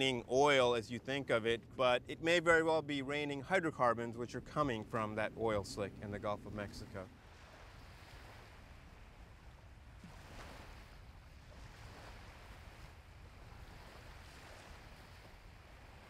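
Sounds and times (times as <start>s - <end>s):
low wind rumble: 0.0s - 16.0s
waves washing on beach: 0.0s - 16.0s.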